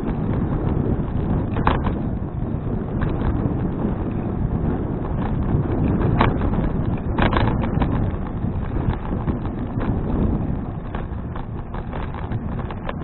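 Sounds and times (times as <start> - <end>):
bicycle clicks and rattles: 0.0 - 13.0
wind buffeting microphone: 0.0 - 13.0.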